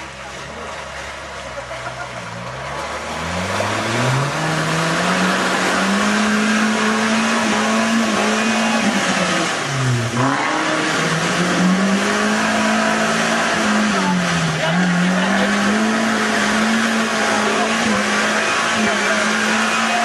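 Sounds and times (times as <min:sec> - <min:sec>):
car engine revving: 0:00.0 - 0:20.0
wheels churning mud: 0:00.0 - 0:20.0.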